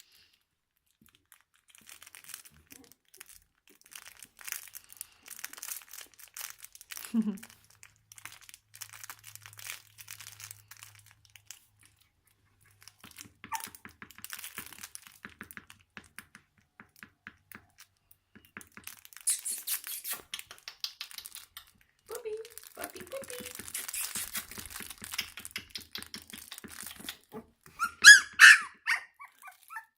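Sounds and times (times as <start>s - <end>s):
crinkling and rustling: 0.0s - 19.4s, 21.2s - 27.9s.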